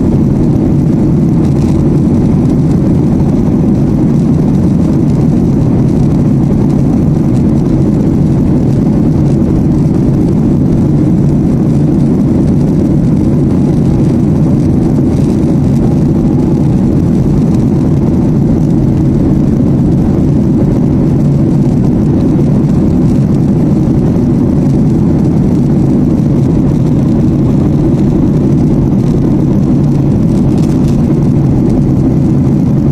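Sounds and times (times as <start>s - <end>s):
airliner cabin engine drone: 0.0s - 32.9s.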